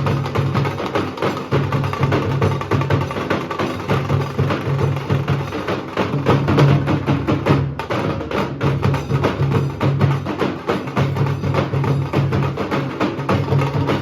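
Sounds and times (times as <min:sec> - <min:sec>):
deep barrel drum beats: 0:00.0 - 0:14.0
fast rattle of drum strokes: 0:00.0 - 0:14.0.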